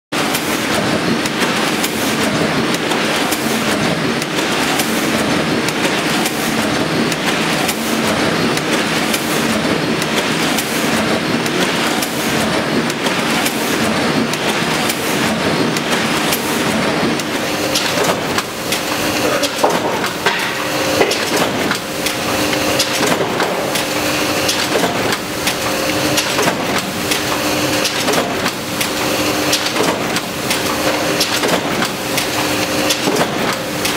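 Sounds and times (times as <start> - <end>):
paper machine humming tone: 0.2 - 33.9
printing press clatter: 0.2 - 33.9.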